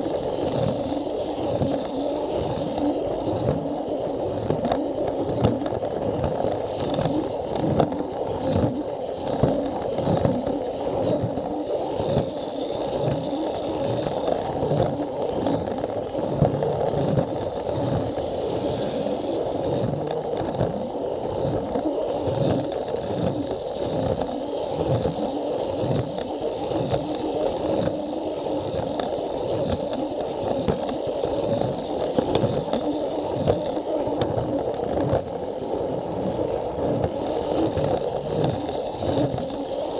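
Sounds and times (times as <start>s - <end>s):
plastic wheels rumbling on rails: 0.0s - 39.9s.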